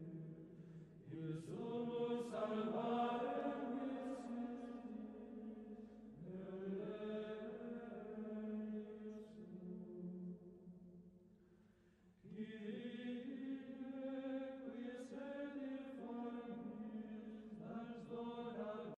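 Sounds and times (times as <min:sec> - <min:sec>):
soft slow chant-like music: 0:00.0 - 0:19.0.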